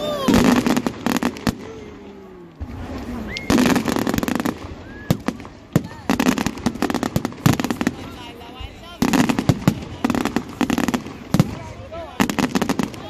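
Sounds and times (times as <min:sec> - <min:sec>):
fireworks crackling: 0:00.0 - 0:13.0
sharp firework bangs: 0:00.1 - 0:13.0.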